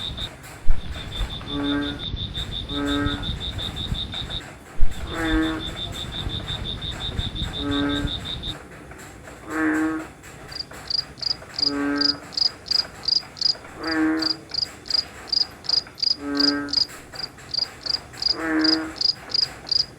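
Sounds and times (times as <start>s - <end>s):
cricket chirping: 0.0s - 8.6s, 10.5s - 19.9s
frog croaking: 0.0s - 8.6s, 9.5s - 19.9s.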